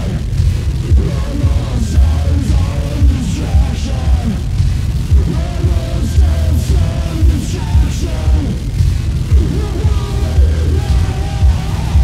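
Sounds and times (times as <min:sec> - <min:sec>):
industrial noise music: 0:00.0 - 0:12.0.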